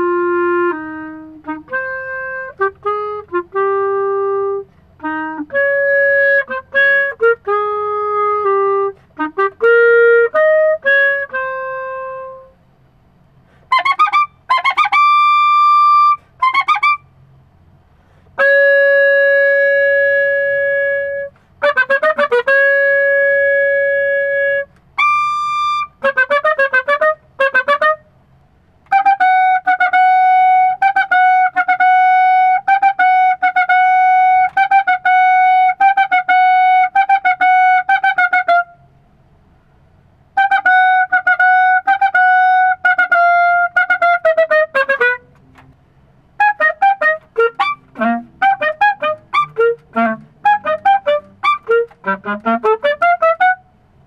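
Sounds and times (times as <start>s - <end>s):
solo clarinet: 0.0s - 28.1s, 28.8s - 39.0s, 40.2s - 54.0s.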